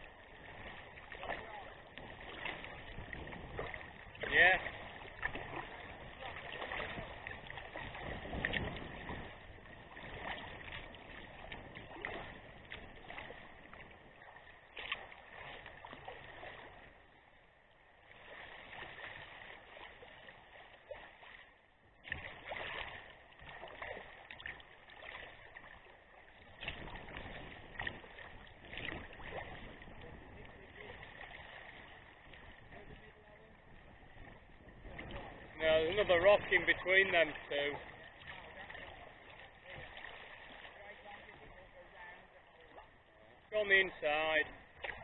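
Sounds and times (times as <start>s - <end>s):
paddle splashing in water: 0.0s - 45.0s
water slapping against hull: 0.0s - 45.0s.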